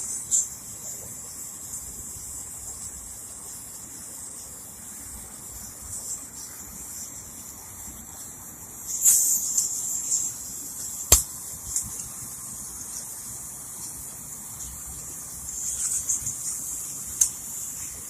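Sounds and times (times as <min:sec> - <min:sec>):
wind-up toy clockwork buzzing: 0:00.0 - 0:18.0.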